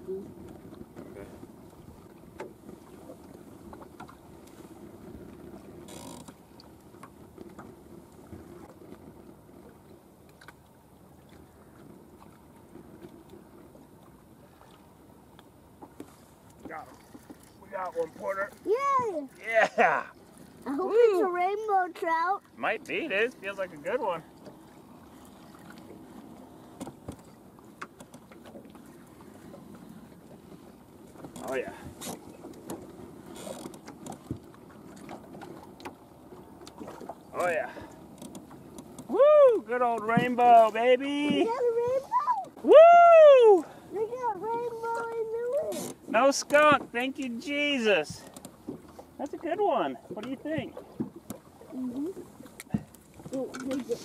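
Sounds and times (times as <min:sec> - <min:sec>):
faint wind: 0:00.0 - 0:54.0
water noise: 0:00.0 - 0:54.0.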